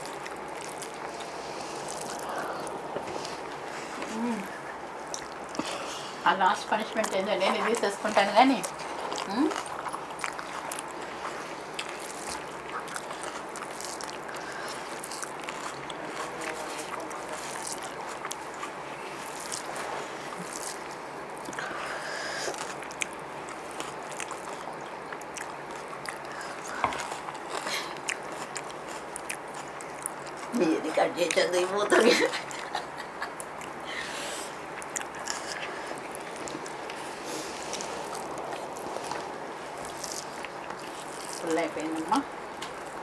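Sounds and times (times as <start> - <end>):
chewing: 0.0 - 43.0
steady low hiss: 0.0 - 43.0.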